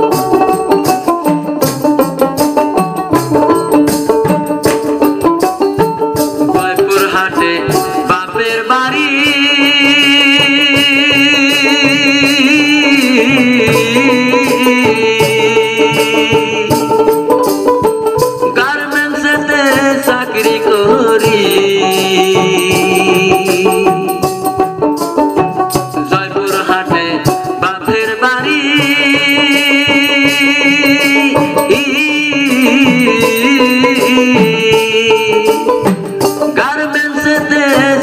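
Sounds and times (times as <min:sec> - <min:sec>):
drum: 0:00.0 - 0:38.0
man singing with vibrato: 0:00.0 - 0:38.0
rattling hand percussion: 0:00.0 - 0:38.0
small stringed lute: 0:00.0 - 0:38.0.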